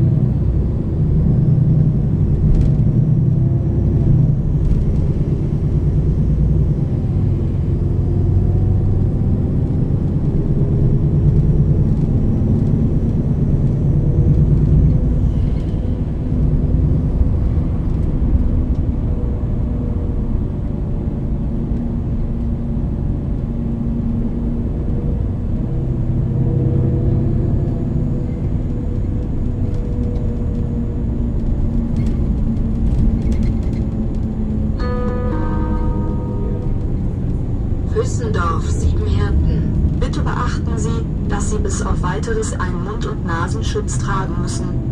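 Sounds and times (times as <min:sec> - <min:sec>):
bus engine rumble: 0:00.0 - 0:44.9.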